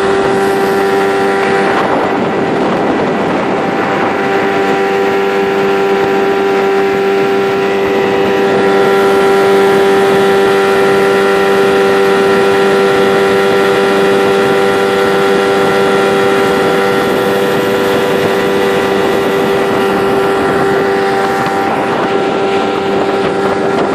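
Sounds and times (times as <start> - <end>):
outboard motor running: 0.0 - 23.9
water rushing from wake: 0.0 - 23.9.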